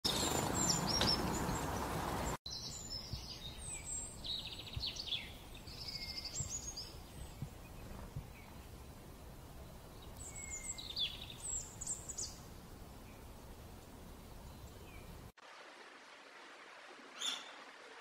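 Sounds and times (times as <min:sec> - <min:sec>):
small birds chirping and trilling: 0:00.1 - 0:15.2, 0:17.2 - 0:17.5
background hiss: 0:00.4 - 0:18.0.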